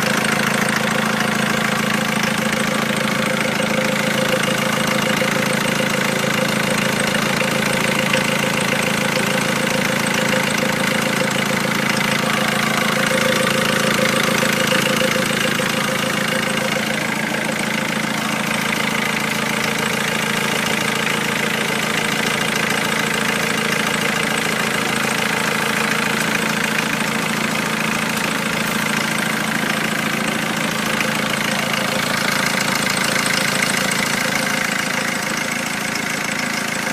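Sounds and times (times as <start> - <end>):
van engine idling: 0.0 - 36.9.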